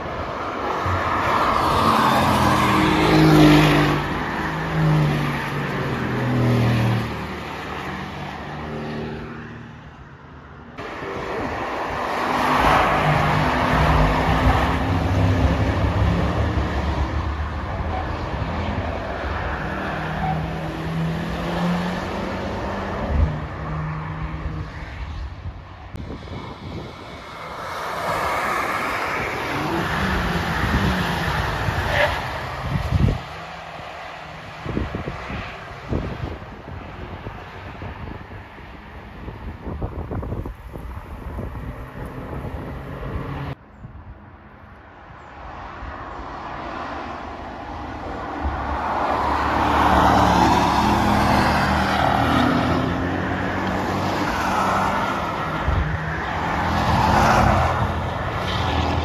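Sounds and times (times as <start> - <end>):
cars passing at speed: 0.0 - 59.0.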